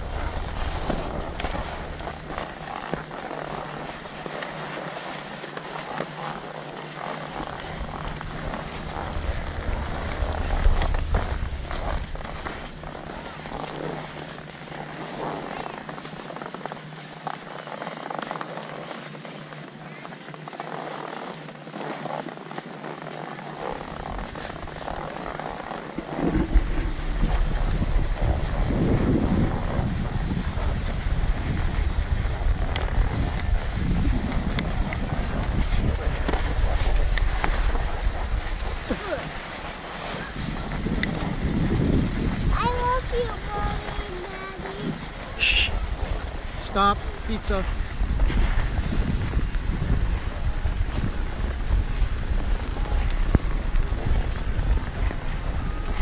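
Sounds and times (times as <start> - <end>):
wind rumbling on microphone: 0.0 - 17.2, 23.3 - 56.0
skis sliding over snow: 0.0 - 56.0.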